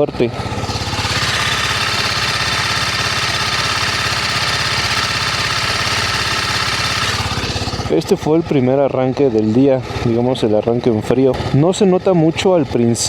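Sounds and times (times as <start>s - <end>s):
motorcycle engine idling: 0.0s - 13.0s
rapid engine clatter: 0.0s - 13.0s.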